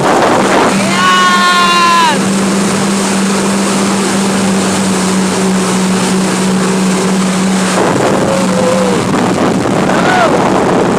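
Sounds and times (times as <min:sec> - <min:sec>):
jet ski engine running: 0:00.0 - 0:10.9
rush of wind and water: 0:00.0 - 0:10.9.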